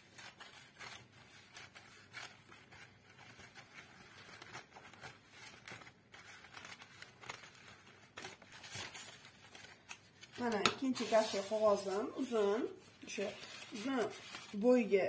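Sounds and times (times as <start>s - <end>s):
scissors snipping paper: 0.0s - 12.5s, 13.1s - 14.8s
crepe paper crinkling: 0.0s - 15.0s.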